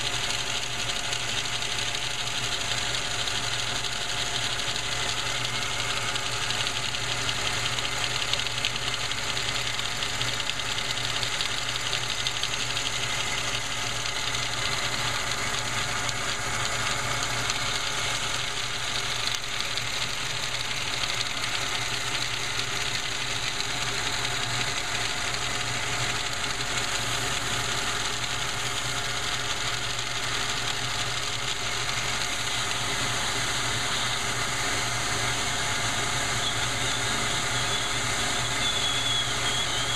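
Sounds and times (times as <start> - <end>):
toy engine pistons clattering: 0.0 - 34.4, 36.2 - 39.9
shop vac running: 0.0 - 39.9.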